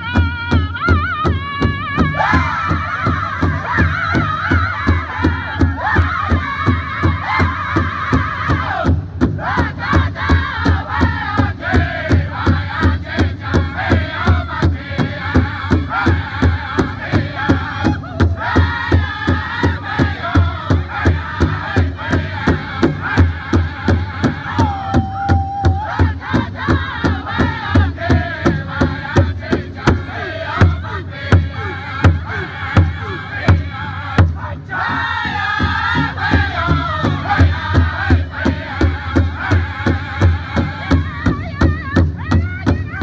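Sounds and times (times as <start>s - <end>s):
large drum steady beat: 0.0s - 43.0s
men singing loudly in unison: 0.8s - 43.0s.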